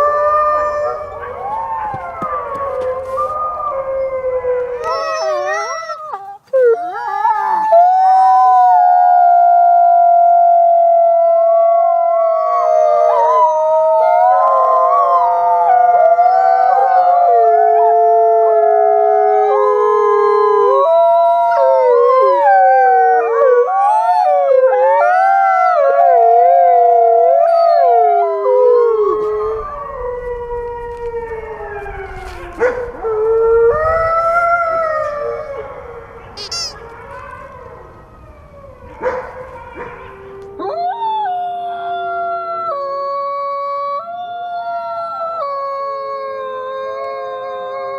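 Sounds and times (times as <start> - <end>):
wolves howling in chorus: 0.0 - 47.9.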